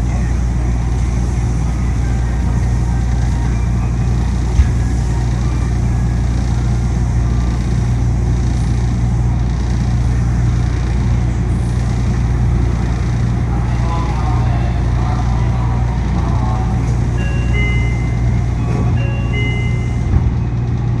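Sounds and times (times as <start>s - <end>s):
loud air conditioning: 0.0s - 21.0s
monorail car hum and rushing: 0.0s - 21.0s.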